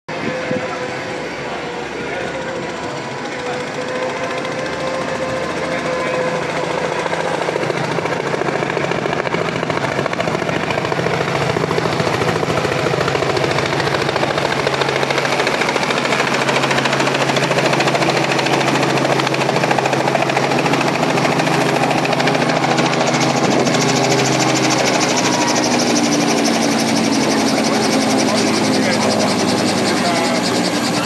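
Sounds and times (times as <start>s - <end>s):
helicopter rotor chopping: 0.1s - 31.0s.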